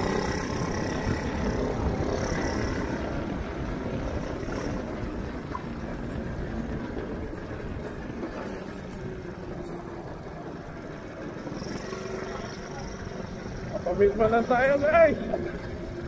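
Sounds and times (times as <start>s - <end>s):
go-kart engine rumble: 0.0s - 16.0s.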